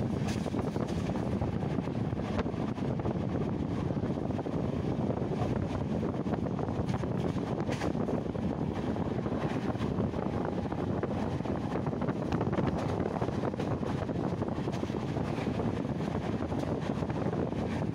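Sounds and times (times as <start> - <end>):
train wheels rumbling on track: 0.0 - 17.9
wind buffeting microphone: 0.0 - 17.9.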